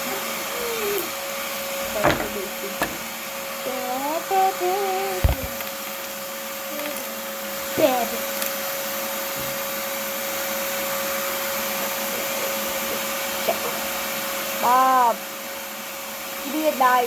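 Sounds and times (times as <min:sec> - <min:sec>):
motor humming with whine: 0:00.0 - 0:17.0.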